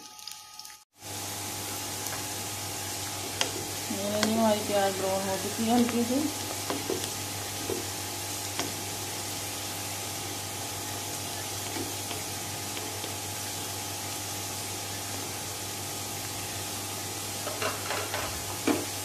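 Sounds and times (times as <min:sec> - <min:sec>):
onions sizzling in hot fat: 0:00.7 - 0:19.0.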